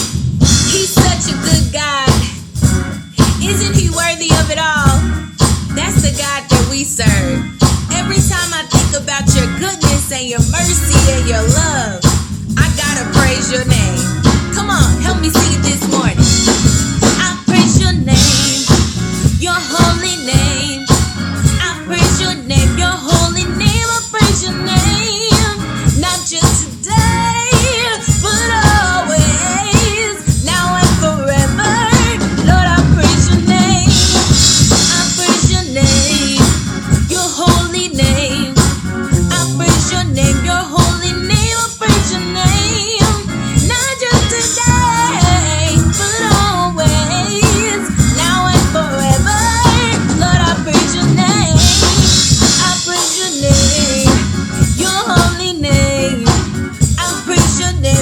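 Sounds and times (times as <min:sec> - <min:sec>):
drum kit steady beat: 0:00.0 - 0:58.0
gospel singers with band: 0:00.0 - 0:58.0.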